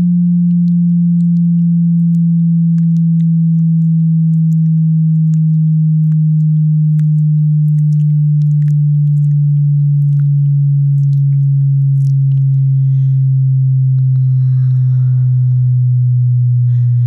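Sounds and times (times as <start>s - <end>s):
low sine tone sweeping down: 0.0s - 17.0s.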